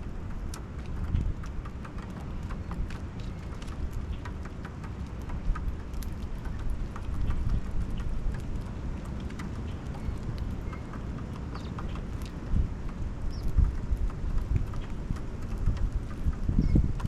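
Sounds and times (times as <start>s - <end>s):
light taps and clicks: 0.0s - 17.0s
steady low rumble: 0.0s - 17.0s.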